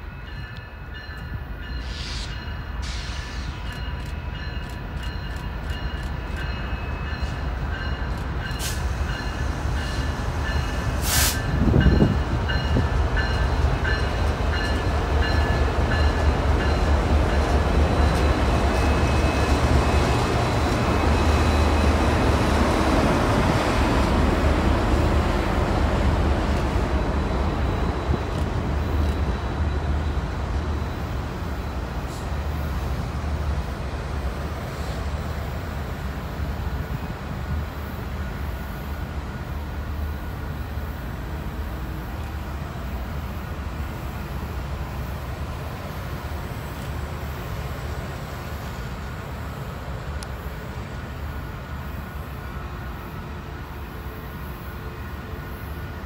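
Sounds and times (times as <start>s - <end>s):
locomotive whine: 0.0s - 56.0s
train wheels rumbling on rail: 0.0s - 56.0s.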